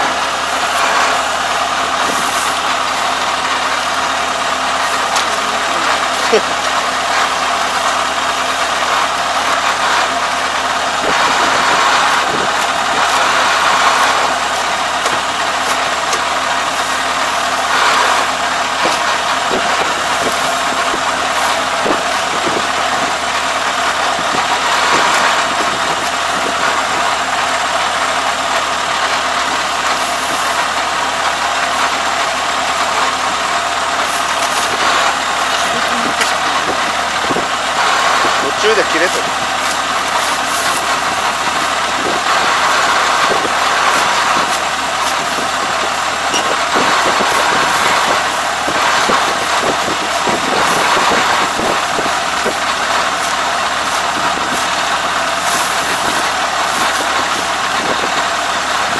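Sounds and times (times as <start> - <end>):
combine harvester engine idling: 0.0 - 58.9
knocks and rustles of straw: 0.0 - 58.9.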